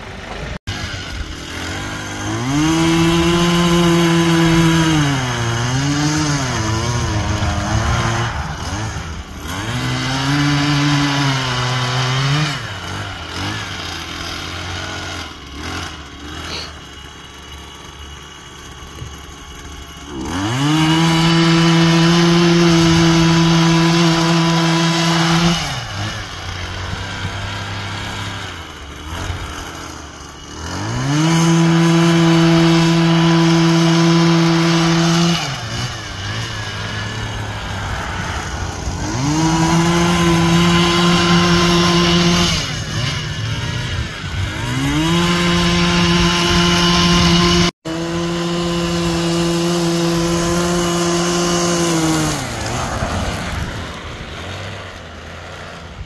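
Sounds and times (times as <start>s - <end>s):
small petrol engine revving: 0.0s - 56.0s.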